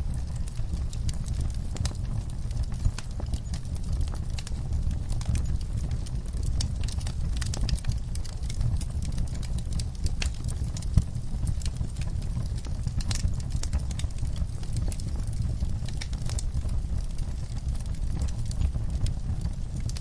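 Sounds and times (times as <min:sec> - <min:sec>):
log fire crackling: 0:00.0 - 0:20.0.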